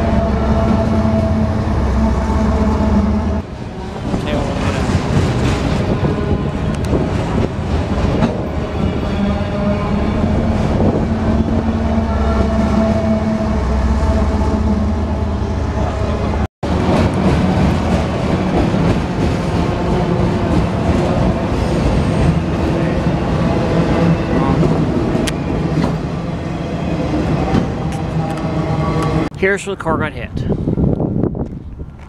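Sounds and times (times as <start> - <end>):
diesel locomotive engine hum: 0.0 - 32.0
train wheels rumbling on rail: 0.0 - 32.0.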